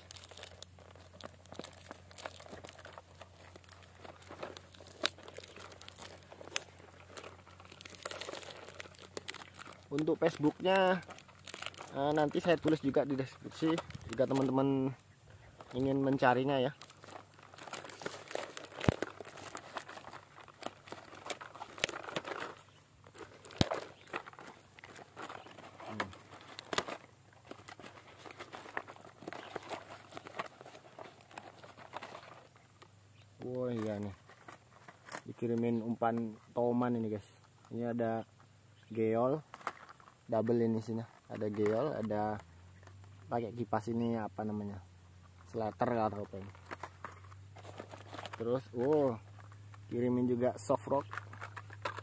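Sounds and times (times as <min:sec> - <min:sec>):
plastic wrapping crinkling and tearing: 0:00.0 - 0:37.7, 0:39.3 - 0:43.4, 0:45.4 - 0:52.0.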